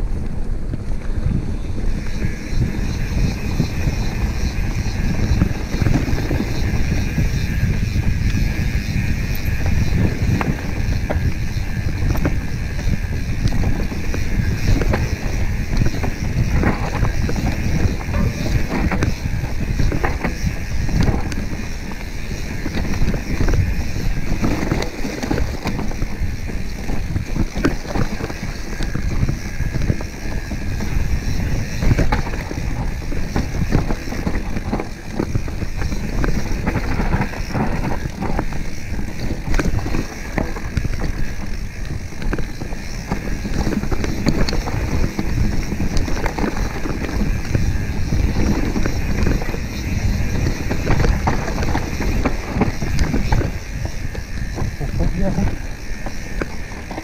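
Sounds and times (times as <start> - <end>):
bike rattling and knocking: 0.0 - 57.0
wind buffeting microphone: 0.0 - 57.0
tyres over dirt and leaves: 9.1 - 57.0.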